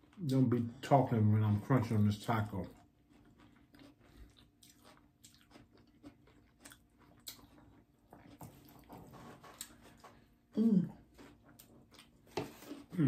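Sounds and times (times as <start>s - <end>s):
crunchy chewing: 1.5s - 13.0s.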